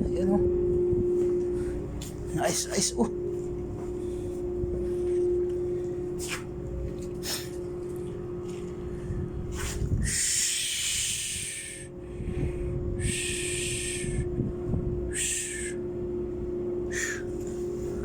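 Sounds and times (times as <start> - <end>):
ship machinery hum: 0.0 - 18.0.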